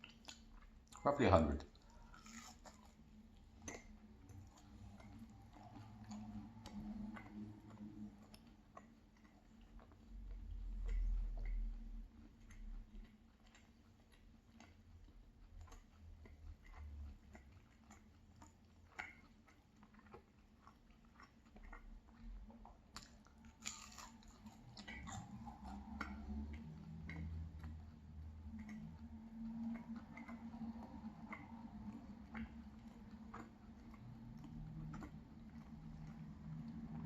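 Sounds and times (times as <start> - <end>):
chewing and crunchy bites: 0.0 - 37.0.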